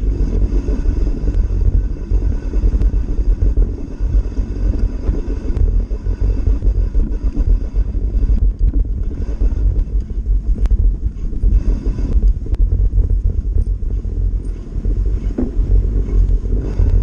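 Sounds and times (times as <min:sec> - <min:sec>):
bike tyres rolling over snow: 0:00.0 - 0:17.0
wind rumble on microphone: 0:00.0 - 0:17.0.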